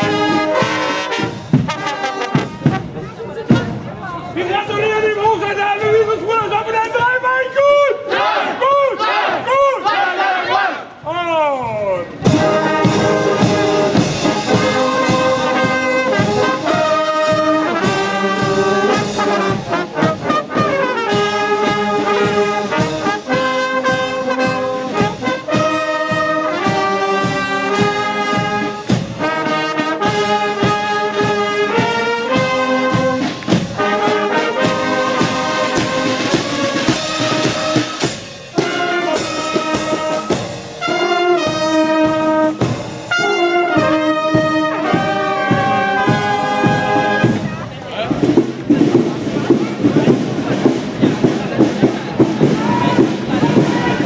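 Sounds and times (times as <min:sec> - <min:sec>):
steady drumbeat: 0:00.0 - 0:04.0, 0:12.2 - 0:54.0
brass band playing: 0:00.0 - 0:05.6, 0:07.4 - 0:11.0, 0:12.1 - 0:54.0.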